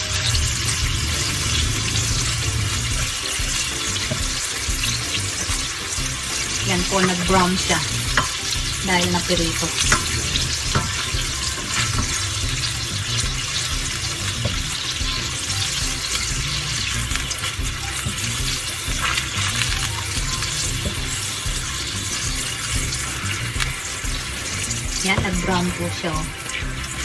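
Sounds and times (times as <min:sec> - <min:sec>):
meat sizzling in a frying pan: 0:00.0 - 0:27.0
spatula stirring in pan: 0:00.6 - 0:25.6.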